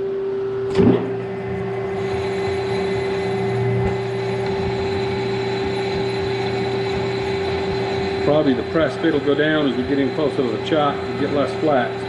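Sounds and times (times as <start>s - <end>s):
motor hum: 0.0s - 12.0s
metal lathe spindle turning: 1.2s - 12.0s.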